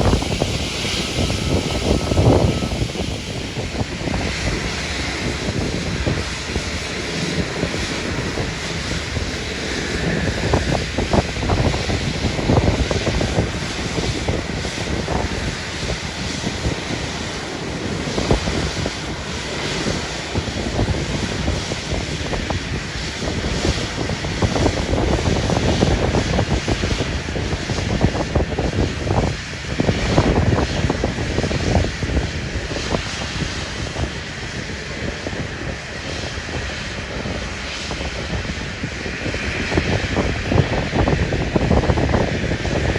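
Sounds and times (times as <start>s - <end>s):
airliner engines rumbling: 0.0s - 42.9s
wind buffeting microphone: 0.0s - 42.9s.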